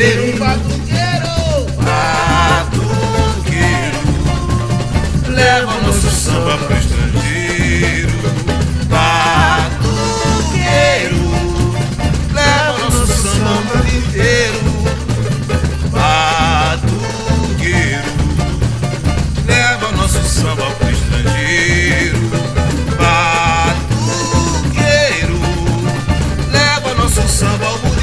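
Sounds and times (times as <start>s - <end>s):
low drums: 0.0s - 28.0s.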